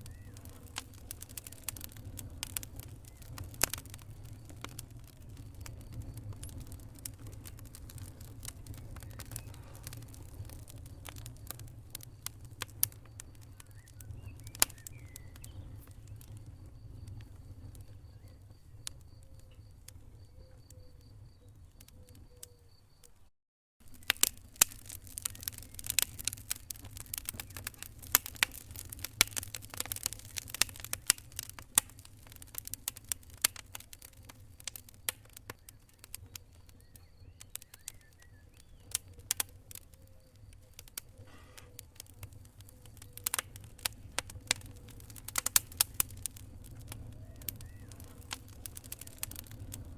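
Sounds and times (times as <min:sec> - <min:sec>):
low fire rumble: 0:00.0 - 0:22.8, 0:23.8 - 0:49.9
wood fire crackling: 0:00.0 - 0:23.0, 0:23.8 - 0:49.9.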